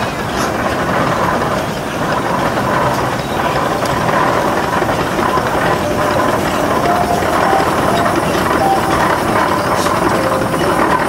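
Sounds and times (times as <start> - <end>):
steam traction engine clatter: 0.0 - 11.0.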